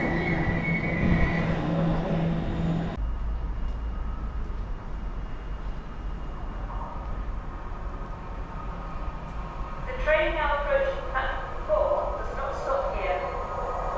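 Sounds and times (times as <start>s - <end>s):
electric train noise: 0.0s - 13.9s.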